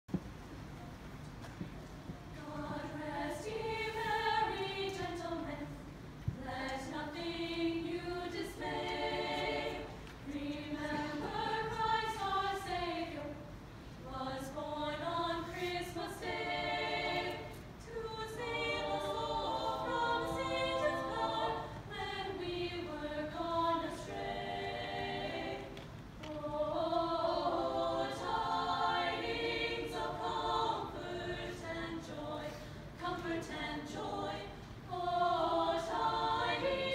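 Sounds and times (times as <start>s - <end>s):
women singing in harmony: 2.3s - 36.9s.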